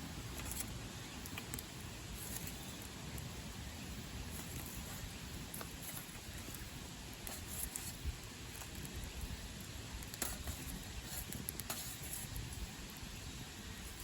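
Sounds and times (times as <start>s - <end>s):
campfire crackling and popping: 0.4s - 14.0s.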